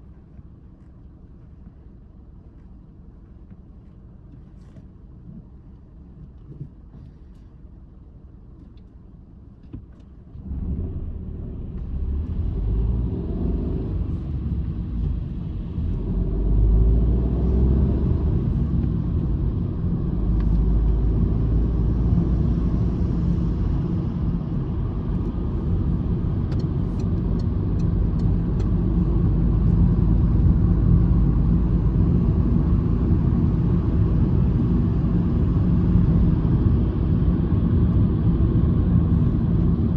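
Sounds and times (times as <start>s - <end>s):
car engine from inside cabin: 0.0s - 39.9s
road rumble: 0.0s - 39.9s.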